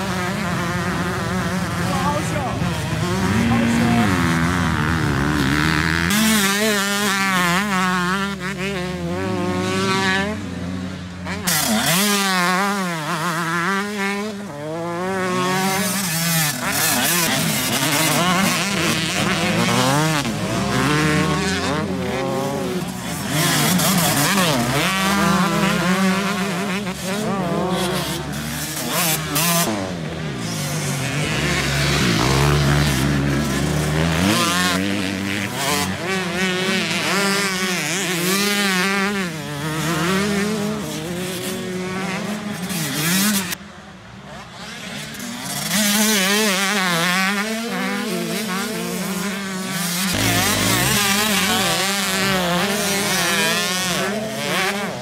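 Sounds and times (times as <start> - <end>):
motocross engines revving: 0.0 - 55.0.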